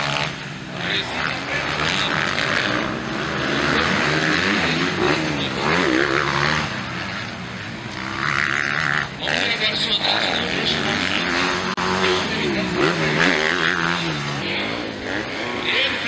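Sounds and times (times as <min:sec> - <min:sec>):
motocross bike engines racing: 0:00.0 - 0:16.0.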